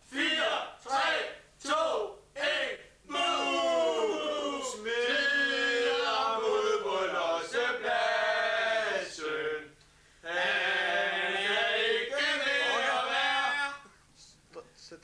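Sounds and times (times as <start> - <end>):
group of voices chanting: 0.1 - 9.7, 10.3 - 13.8.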